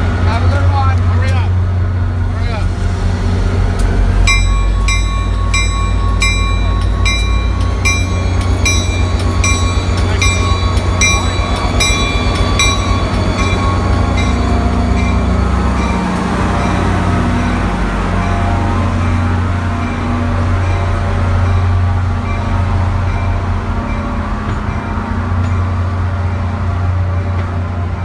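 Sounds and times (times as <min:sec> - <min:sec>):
locomotive engine drone: 0:00.0 - 0:28.0
locomotive bell ringing: 0:04.2 - 0:28.0.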